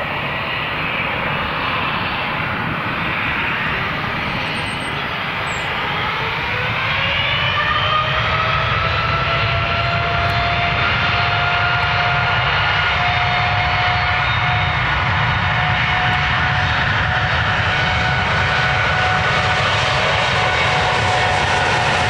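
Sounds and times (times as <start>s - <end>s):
jet engine rumble and whine: 0.0s - 22.0s.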